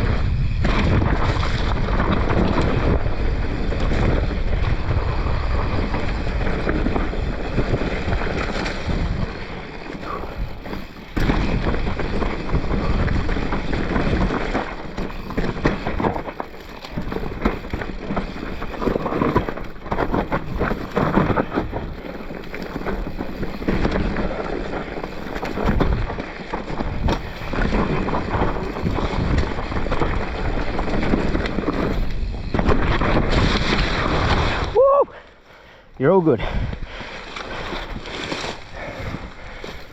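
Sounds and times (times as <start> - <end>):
bike rattling and knocking: 0.0 - 35.0, 36.0 - 39.9
tyres rumbling on dirt: 0.0 - 35.2, 36.0 - 39.9
wind rushing over microphone: 0.0 - 35.2, 35.9 - 39.9.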